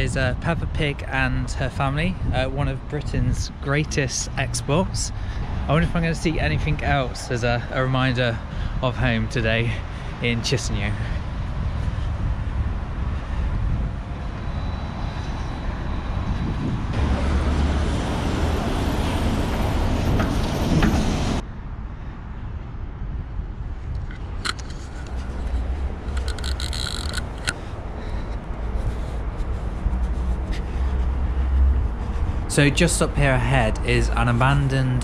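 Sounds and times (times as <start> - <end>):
low traffic rumble: 0.0 - 35.0.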